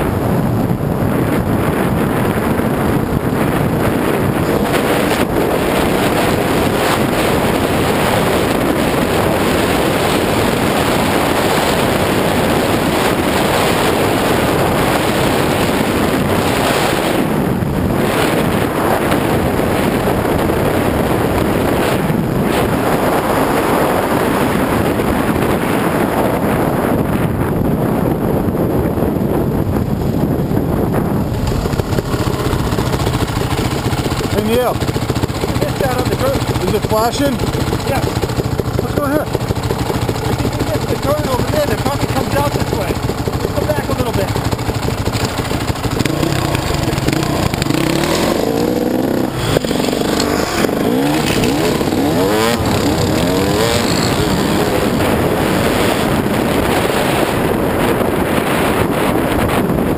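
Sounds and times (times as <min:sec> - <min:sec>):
dirt bike engine running: 0:00.0 - 0:59.9
wind buffeting microphone: 0:00.0 - 0:59.9.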